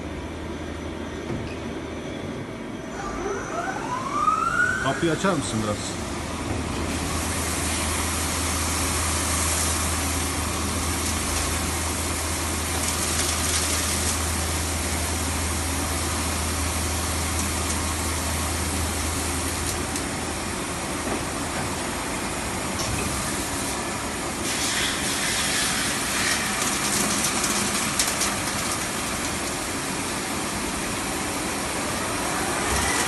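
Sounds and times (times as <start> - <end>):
lathe humming and hissing: 2.5 - 33.0.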